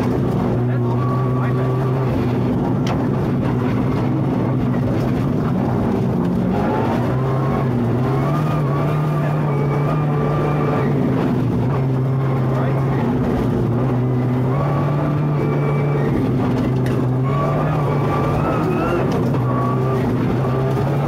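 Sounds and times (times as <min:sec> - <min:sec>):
rally car engine under load: 0:00.0 - 0:21.0.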